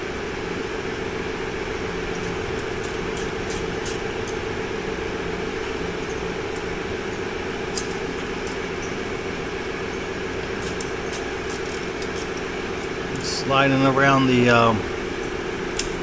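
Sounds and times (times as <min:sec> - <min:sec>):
shop machinery drone: 0:00.0 - 0:16.0.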